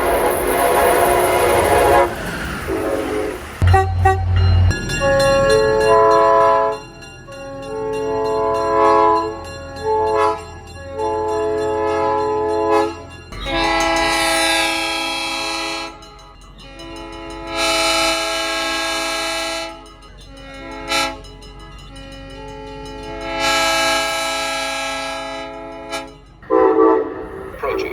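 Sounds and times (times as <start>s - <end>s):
locomotive air horns: 0.0s - 6.8s, 7.5s - 27.9s
train running noise: 0.0s - 27.9s.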